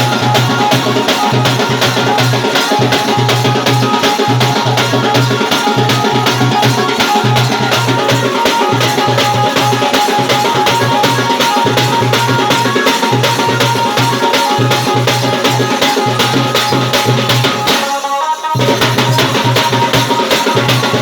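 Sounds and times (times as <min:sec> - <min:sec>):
drums beating fast rhythm: 0:00.0 - 0:21.0
folk dance music: 0:00.0 - 0:21.0.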